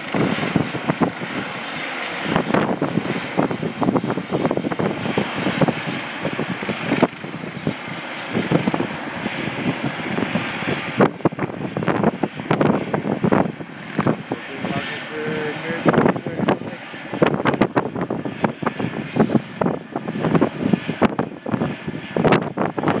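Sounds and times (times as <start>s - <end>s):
helicopter rushing noise: 0.0s - 23.0s
wind buffeting microphone: 0.0s - 23.0s.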